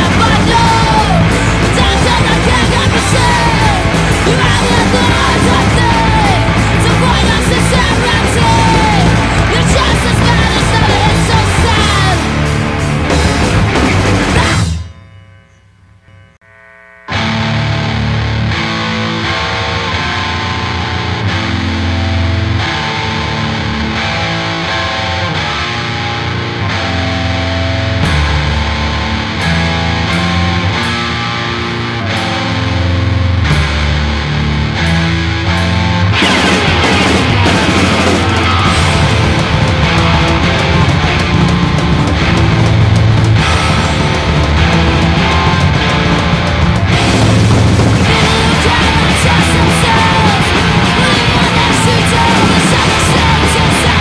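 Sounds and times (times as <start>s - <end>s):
punk band playing: 0.0s - 15.0s, 17.1s - 54.0s
distorted electric guitar: 0.0s - 15.1s, 16.0s - 54.0s.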